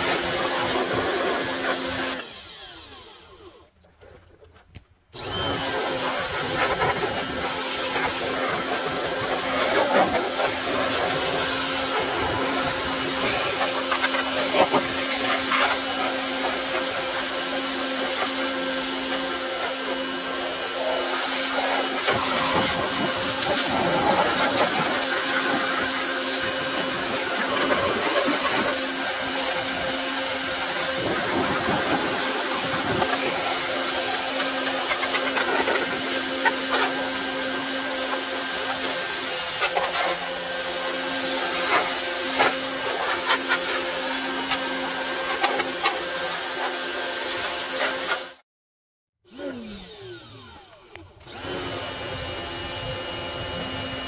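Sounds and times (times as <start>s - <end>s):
pressure washer jet hissing on metal: 0.0s - 2.2s, 5.5s - 48.4s.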